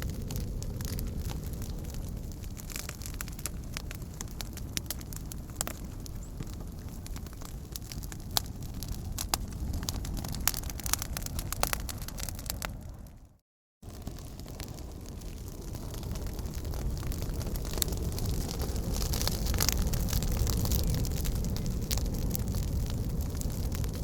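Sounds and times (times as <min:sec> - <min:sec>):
campfire flames rumbling: 0:00.0 - 0:24.0
fire crackles and pops: 0:00.0 - 0:24.0.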